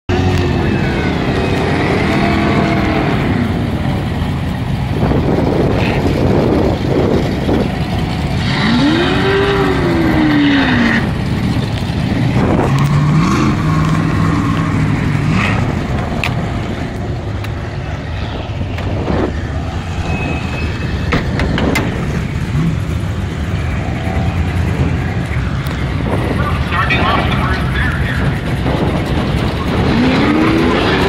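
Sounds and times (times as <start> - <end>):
car engines revving: 0.1 - 31.0
traffic rumble: 0.1 - 31.0
wind: 0.1 - 31.0.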